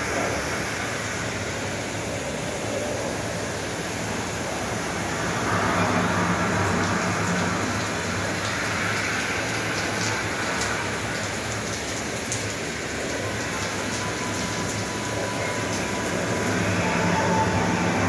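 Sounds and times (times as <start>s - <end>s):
shower rain hiss: 0.0s - 18.0s.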